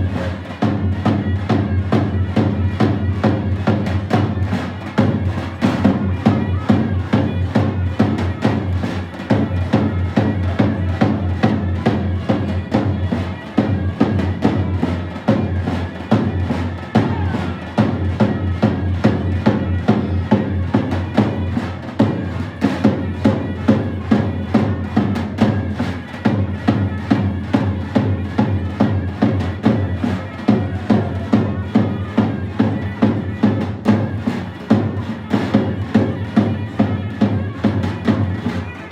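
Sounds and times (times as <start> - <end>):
folk dance music: 0.0 - 38.9
steady drum beat: 0.0 - 38.9.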